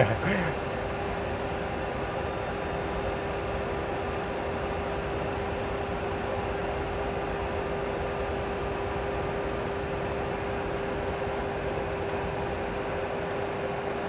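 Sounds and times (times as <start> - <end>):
cockpit hiss and hum: 0.0 - 14.0.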